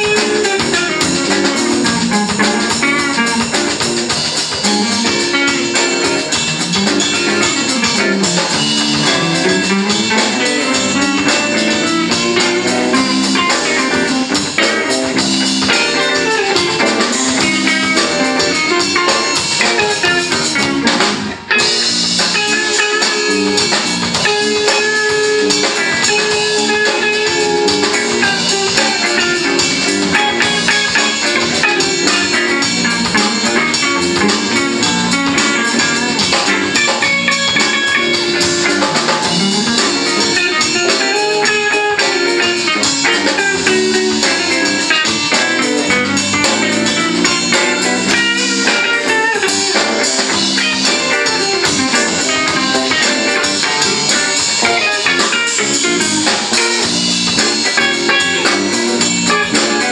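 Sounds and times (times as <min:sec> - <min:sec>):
drum kit: 0:00.0 - 0:59.9
electric bass: 0:00.0 - 0:59.9
electric guitars: 0:00.0 - 0:59.9.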